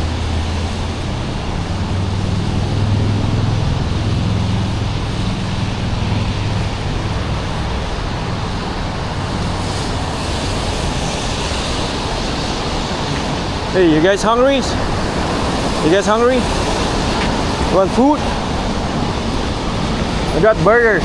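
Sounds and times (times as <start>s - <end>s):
road traffic rush: 0.0s - 21.0s
vehicle engine hum: 0.0s - 21.0s.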